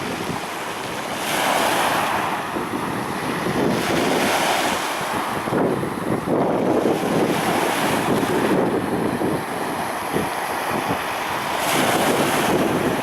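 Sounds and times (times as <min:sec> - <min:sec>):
waves washing onto shore: 0:00.0 - 0:13.0.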